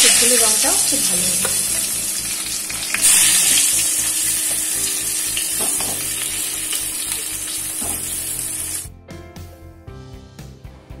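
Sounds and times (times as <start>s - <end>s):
potatoes sizzling in oil: 0.0s - 8.9s
soft background music: 0.0s - 11.0s.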